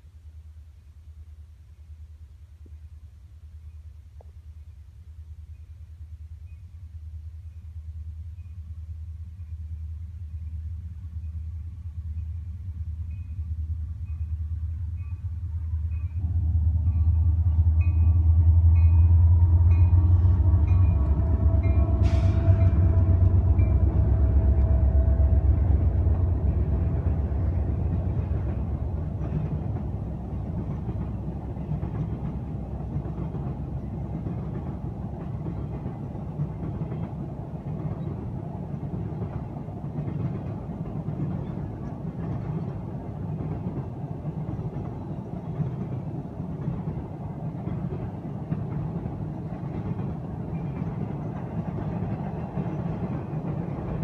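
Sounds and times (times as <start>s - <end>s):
locomotive engine rumble: 0.2s - 54.0s
train wheels rattling on rails: 6.4s - 54.0s.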